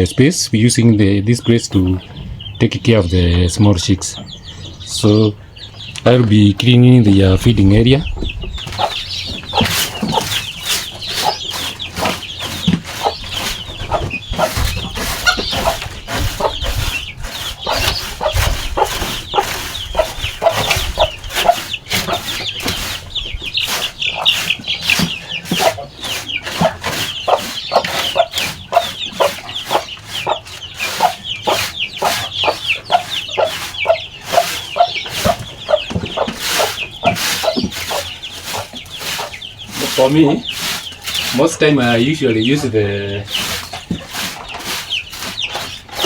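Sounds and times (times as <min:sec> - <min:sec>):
chickens clucking: 0:00.0 - 0:46.0
chicks cheeping: 0:00.0 - 0:46.0.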